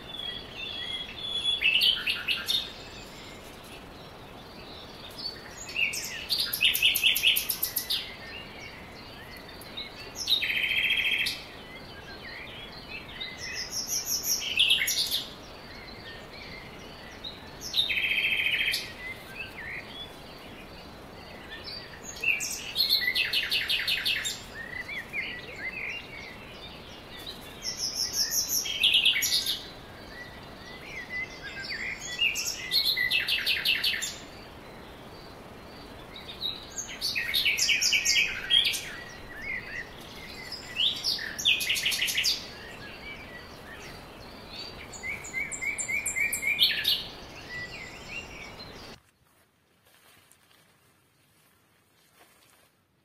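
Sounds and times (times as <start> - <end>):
songbirds trilling: 0.0 - 49.4
faint steady hiss: 0.0 - 53.0.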